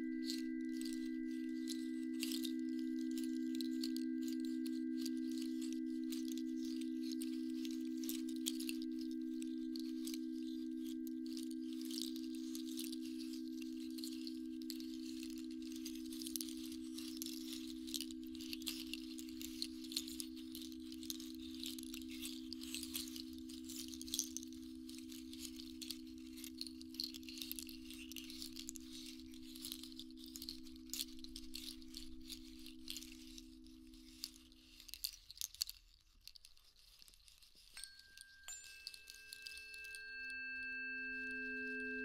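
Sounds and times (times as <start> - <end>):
faint high ticks and tinkles: 0.0 - 42.0
high jingling rattle: 0.0 - 42.0.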